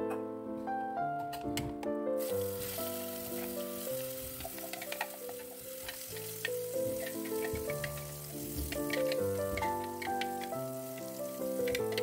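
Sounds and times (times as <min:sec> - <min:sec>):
piano background music: 0:00.0 - 0:12.0
spice paste sizzling in oil: 0:02.2 - 0:12.0.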